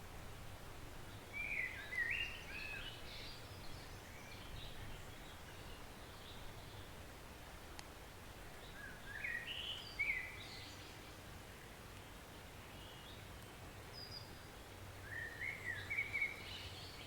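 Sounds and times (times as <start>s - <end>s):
songbird singing: 0.9s - 7.1s, 7.7s - 17.0s.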